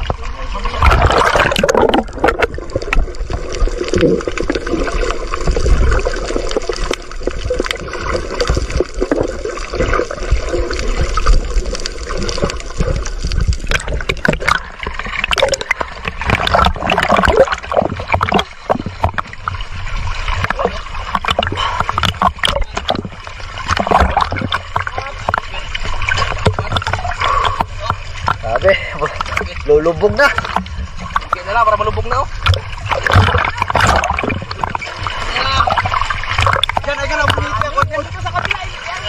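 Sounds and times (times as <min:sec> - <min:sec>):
underwater gurgling and rumble: 0:00.0 - 0:39.0
water splashing and slapping: 0:00.0 - 0:39.0.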